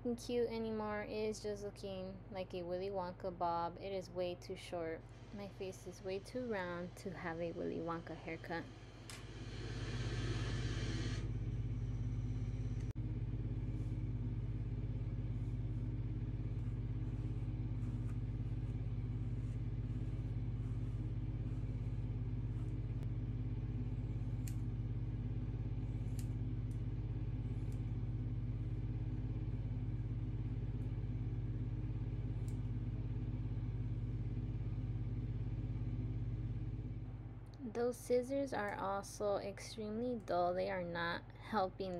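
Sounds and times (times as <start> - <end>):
low mechanical hum: 0.0 - 41.9.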